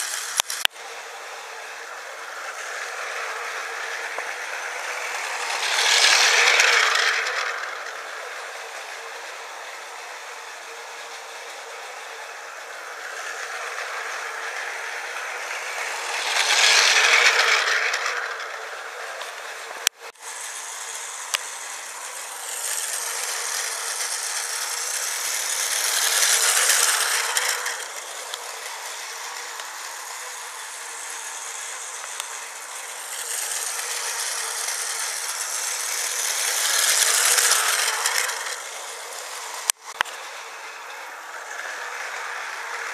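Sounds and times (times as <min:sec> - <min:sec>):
toy train motor whirring: 0:00.0 - 0:42.9
wheels rattling on plastic track: 0:00.0 - 0:42.9.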